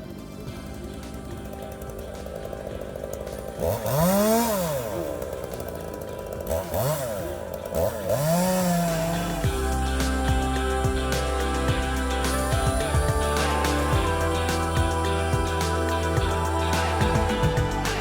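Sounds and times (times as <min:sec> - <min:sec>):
background music: 0:00.0 - 0:18.0
chainsaw engine revving: 0:00.0 - 0:18.0.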